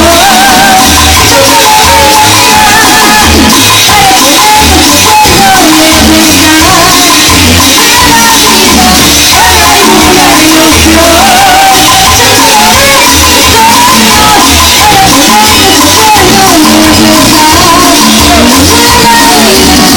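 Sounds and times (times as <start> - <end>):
latin dance music: 0.0 - 19.9.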